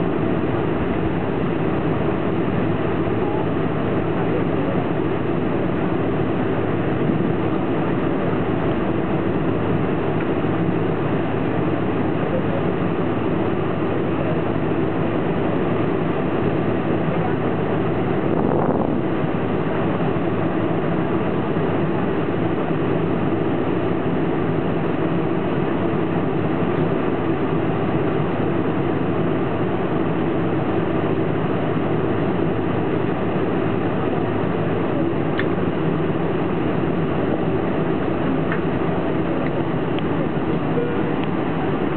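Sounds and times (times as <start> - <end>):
airplane cabin engine noise: 0.0 - 41.9.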